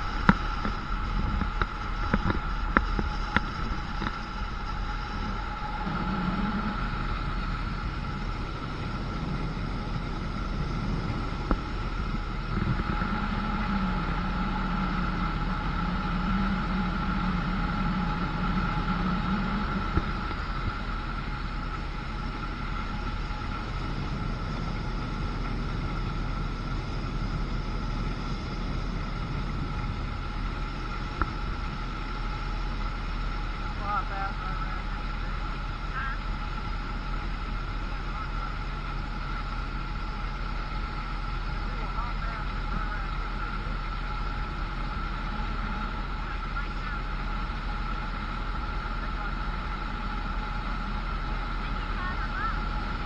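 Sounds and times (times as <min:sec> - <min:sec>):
motorboat engine whining: 0:00.0 - 0:53.0
wind: 0:00.0 - 0:53.0.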